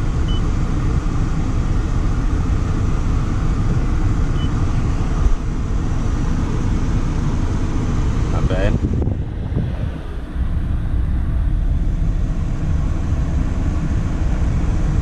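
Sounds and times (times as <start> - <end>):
steady low rumbling: 0.0 - 15.0.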